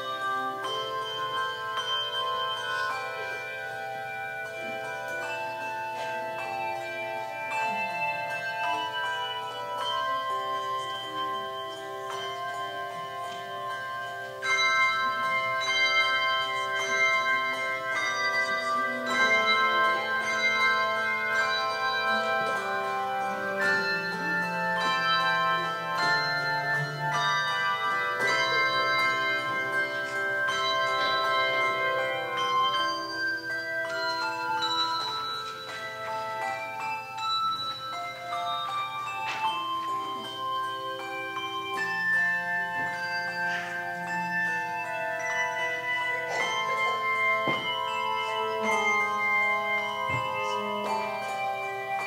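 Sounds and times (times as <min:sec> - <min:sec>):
handbell choir playing: 0:00.0 - 0:52.0.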